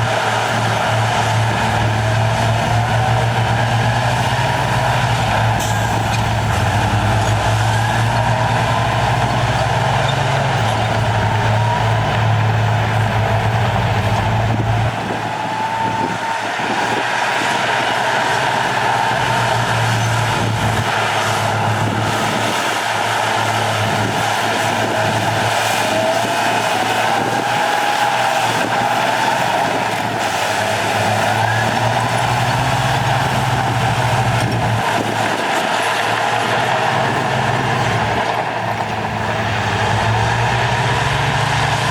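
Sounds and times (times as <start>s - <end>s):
diesel machinery engine drone: 0.0s - 41.9s.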